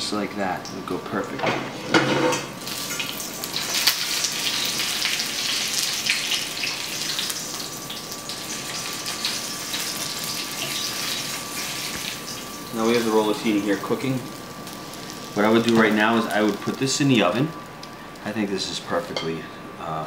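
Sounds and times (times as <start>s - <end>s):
food sizzling in hot oil: 2.3s - 19.1s.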